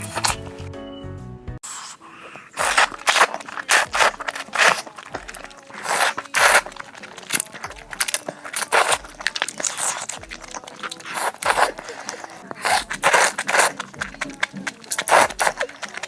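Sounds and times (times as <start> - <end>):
chewing and crunching: 0.0 - 0.6, 1.6 - 16.0
scraping: 1.6 - 16.0.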